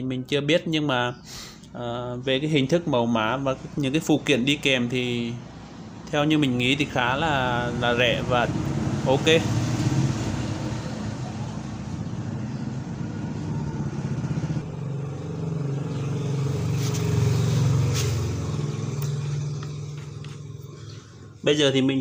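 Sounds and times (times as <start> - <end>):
engine humming: 1.2 - 21.6.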